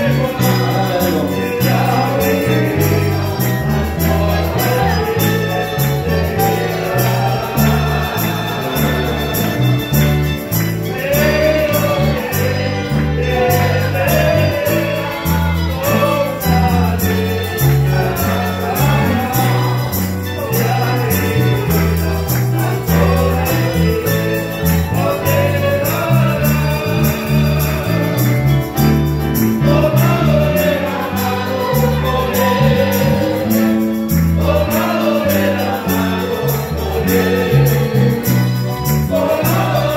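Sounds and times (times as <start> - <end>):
bass line: 0.0 - 39.9
strummed guitars: 0.0 - 39.9
voices singing a hymn: 0.0 - 39.9.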